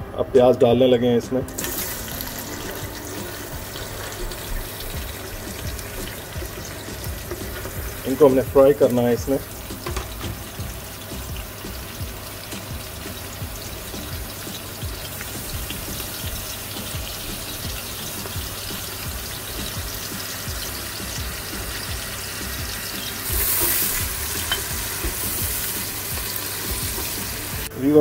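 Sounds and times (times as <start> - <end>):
onions sizzling in hot oil: 1.5 - 28.0.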